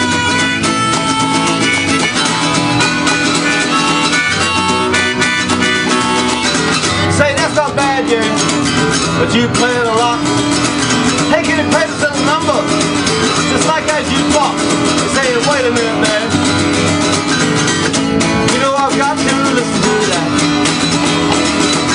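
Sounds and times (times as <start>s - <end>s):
bending harmonica notes: 0.0s - 21.9s
strummed acoustic guitar chords: 0.0s - 21.9s.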